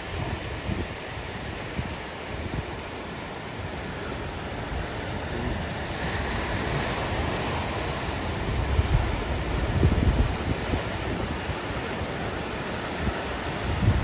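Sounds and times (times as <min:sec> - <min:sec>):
ocean surf breaking on a reef: 0:00.0 - 0:14.0
wind buffeting microphone: 0:00.0 - 0:14.0.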